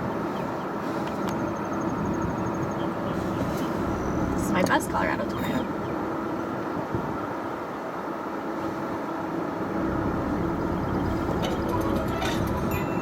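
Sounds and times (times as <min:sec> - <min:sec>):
vehicle running: 0:00.0 - 0:07.1, 0:08.1 - 0:13.0
faint steady hum: 0:00.0 - 0:13.0
wind rumble: 0:00.0 - 0:13.0.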